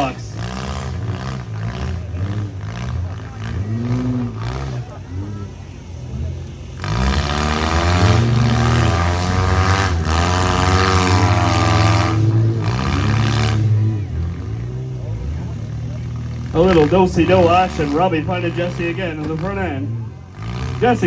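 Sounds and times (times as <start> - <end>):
loud rough rushing noise: 0.0 - 21.0
van engines revving hard: 0.0 - 21.0.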